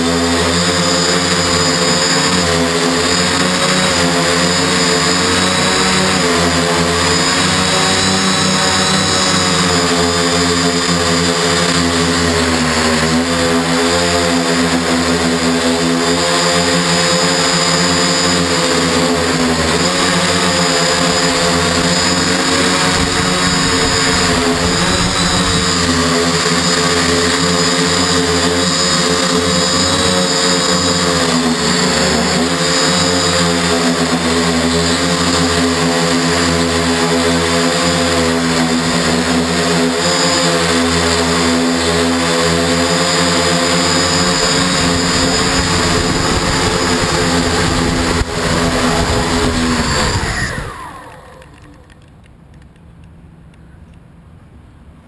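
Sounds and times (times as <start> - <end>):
drone propellers buzzing: 0.0 - 53.6.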